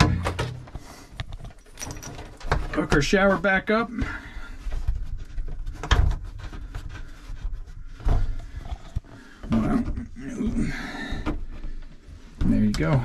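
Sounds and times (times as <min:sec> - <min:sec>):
metal hose rustling and rattling: 0:00.0 - 0:13.0.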